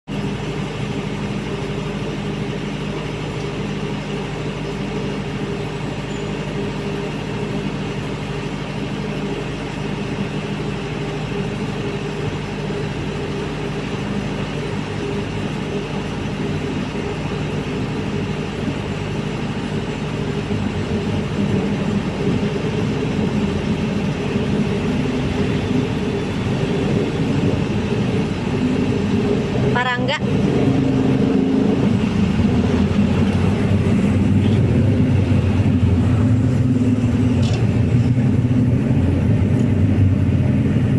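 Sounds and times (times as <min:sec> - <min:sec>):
diesel generator running: 0:00.0 - 0:40.9.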